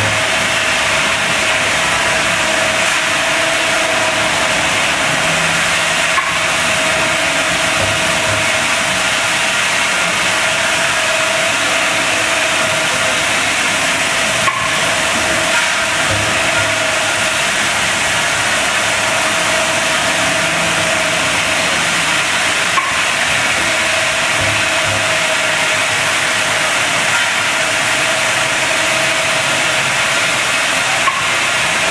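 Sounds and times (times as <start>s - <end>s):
packing machine hissing: 0.0s - 31.9s.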